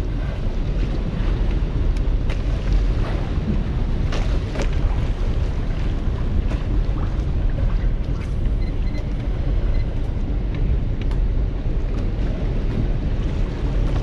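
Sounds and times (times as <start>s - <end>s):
sea washing around boat: 0.0s - 14.0s
wind rumbling on microphone: 0.0s - 14.0s.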